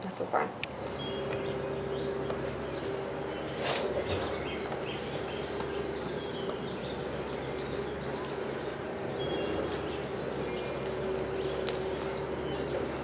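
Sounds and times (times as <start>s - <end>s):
steady low hum: 0.0s - 13.0s
birds chirping and calling: 0.6s - 13.0s.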